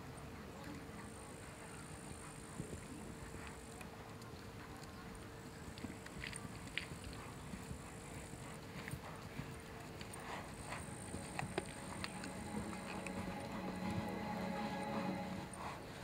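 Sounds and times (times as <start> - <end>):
horse hooves clicking: 0.6 - 16.0.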